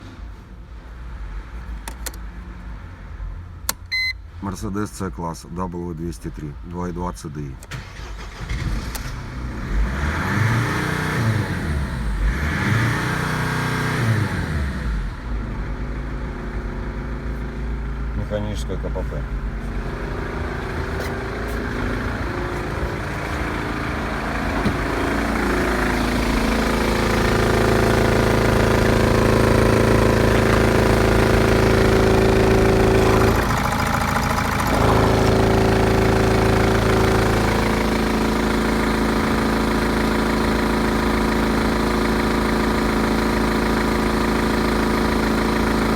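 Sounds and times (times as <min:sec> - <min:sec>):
diesel engine running: 0:07.7 - 0:45.9.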